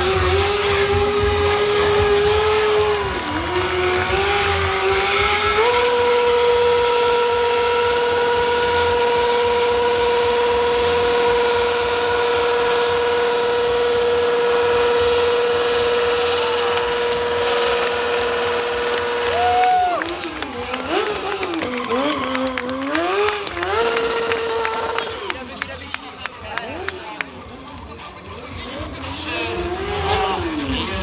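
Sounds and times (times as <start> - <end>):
motorcycle engine at high revs: 0.0 - 31.0.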